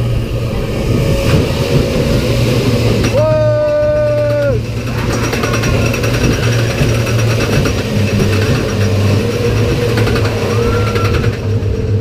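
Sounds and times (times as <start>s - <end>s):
roller coaster rattling on track: 0.0s - 12.0s.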